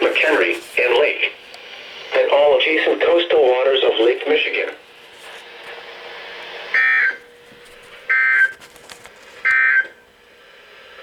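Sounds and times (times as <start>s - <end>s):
faint radio hiss: 0.0s - 9.6s.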